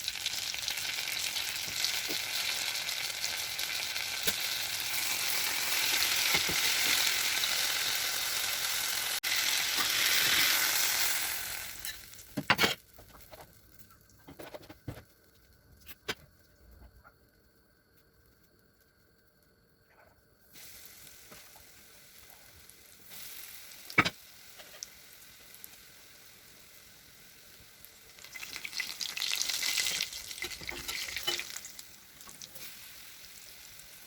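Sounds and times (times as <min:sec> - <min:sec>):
food sizzling in hot oil: 0:00.0 - 0:14.7, 0:19.9 - 0:34.0.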